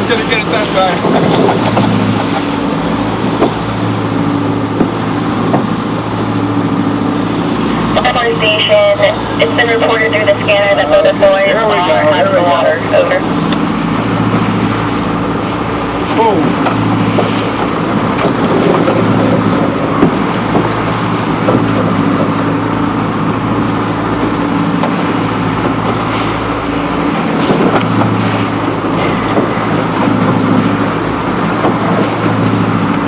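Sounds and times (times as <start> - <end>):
boat engine humming: 0.0 - 33.0
water rushing past hull: 0.0 - 33.0.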